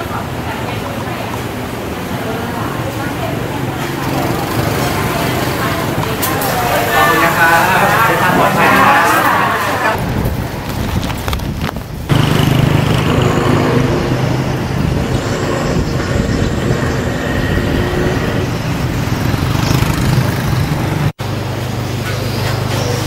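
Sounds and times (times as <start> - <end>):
street traffic hum: 0.0 - 23.0.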